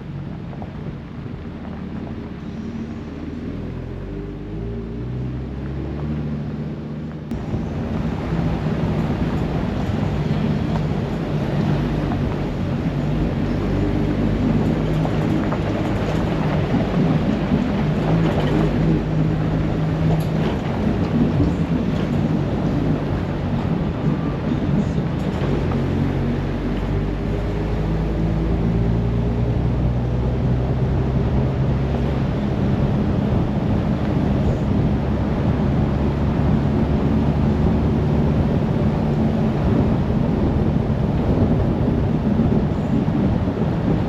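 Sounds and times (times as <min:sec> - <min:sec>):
dense steady rumbling: 0:00.0 - 0:44.0
vehicle engine hum: 0:00.0 - 0:44.0.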